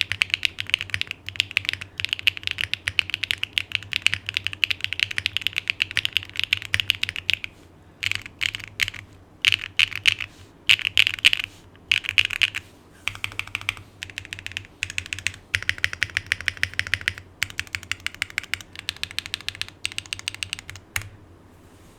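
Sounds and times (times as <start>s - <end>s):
fast mechanical keyboard typing: 0.0s - 21.1s.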